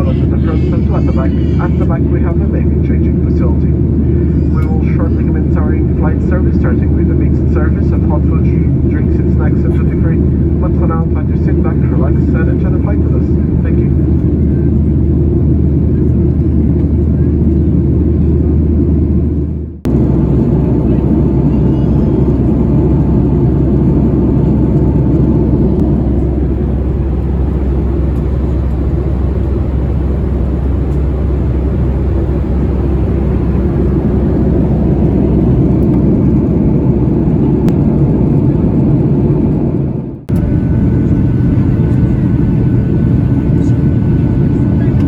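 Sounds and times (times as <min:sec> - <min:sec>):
airplane cabin drone: 0:00.0 - 0:45.0.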